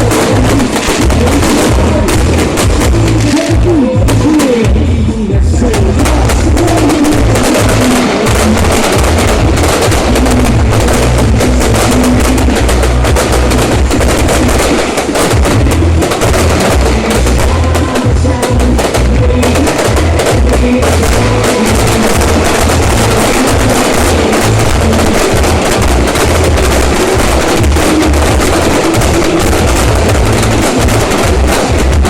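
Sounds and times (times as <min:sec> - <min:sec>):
fireworks crackling bangs: 0:00.0 - 0:32.0
low firework booms: 0:00.0 - 0:32.0.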